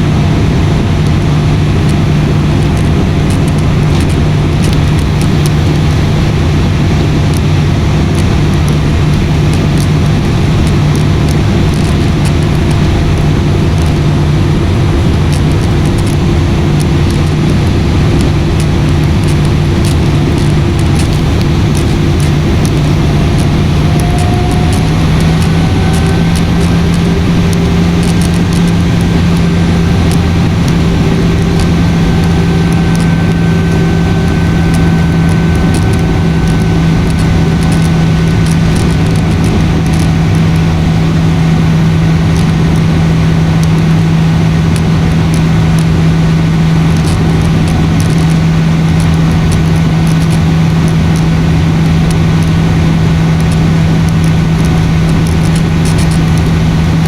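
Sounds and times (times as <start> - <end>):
airliner cabin engine drone: 0.0 - 57.0
high whine: 0.0 - 57.0.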